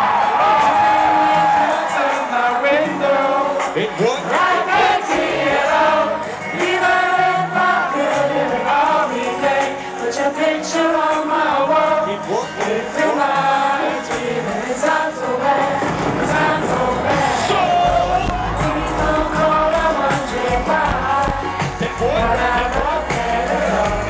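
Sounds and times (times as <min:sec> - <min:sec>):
backing track music: 0:00.0 - 0:24.0
woman singing: 0:01.3 - 0:24.0.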